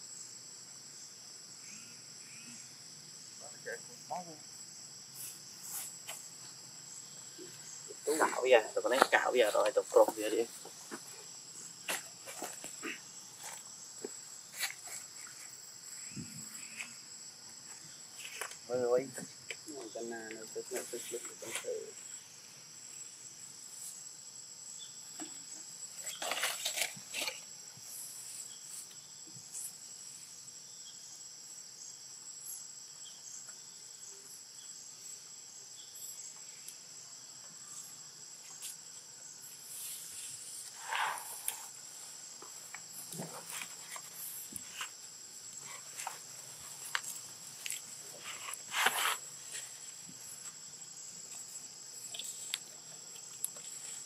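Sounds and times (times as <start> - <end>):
insect chorus drone: 0.0 - 54.0.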